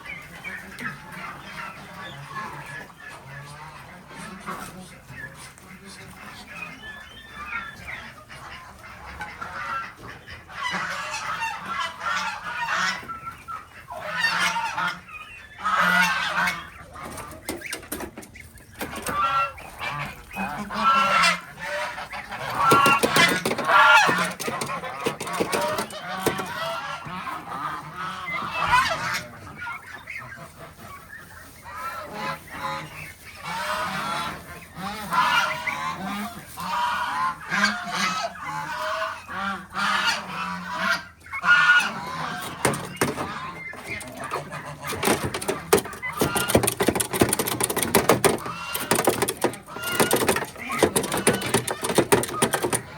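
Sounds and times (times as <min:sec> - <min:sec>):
farm fowl calling: 0:00.0 - 0:52.9.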